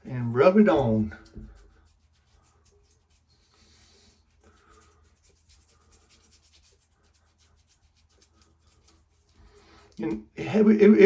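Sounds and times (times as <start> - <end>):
shave stick rubbing on stubble: 0.0 - 11.0.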